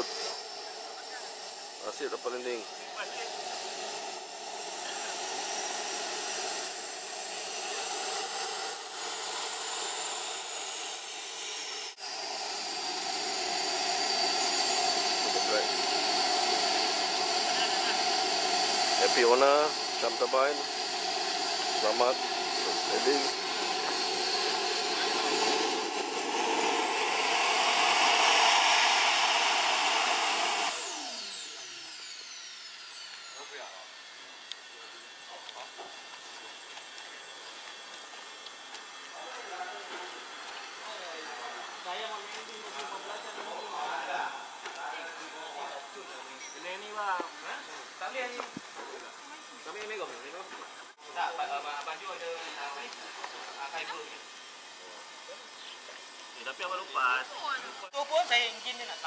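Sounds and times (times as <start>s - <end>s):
model jet turbine whining: 0.0s - 59.0s.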